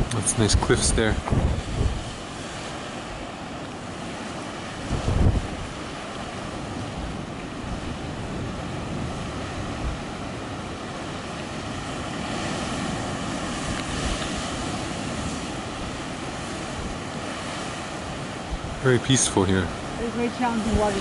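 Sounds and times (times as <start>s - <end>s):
waves breaking on cliffs: 0.0s - 21.0s
wind buffeting microphone: 0.0s - 21.0s.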